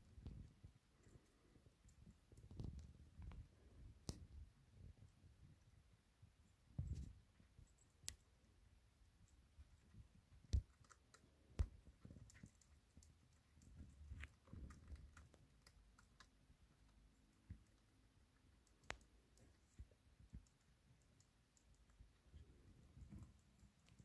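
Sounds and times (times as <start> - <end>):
hamster chewing food: 0.0 - 24.0.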